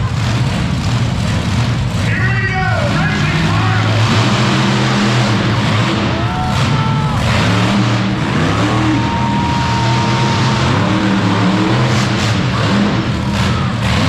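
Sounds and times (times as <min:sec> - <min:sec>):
monster truck engine running: 0:00.0 - 0:14.0.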